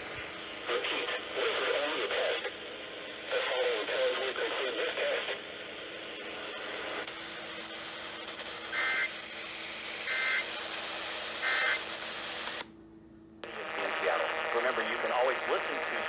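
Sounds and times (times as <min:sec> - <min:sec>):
radio hiss: 0:00.0 - 0:12.6, 0:13.4 - 0:16.0.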